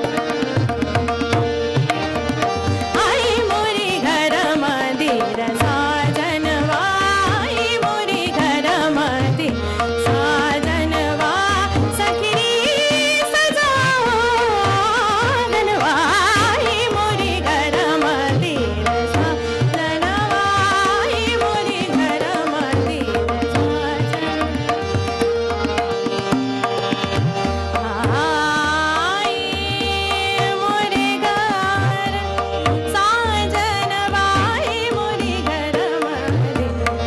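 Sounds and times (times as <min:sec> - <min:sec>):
harmonium: 0:00.0 - 0:37.0
tanpura drone: 0:00.0 - 0:37.0
woman singing classical vocals: 0:03.0 - 0:24.6, 0:27.8 - 0:37.0.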